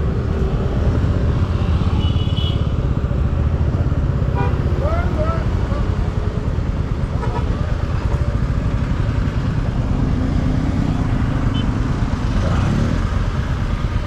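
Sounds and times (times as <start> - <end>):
car and scooter engines: 0.0 - 14.0.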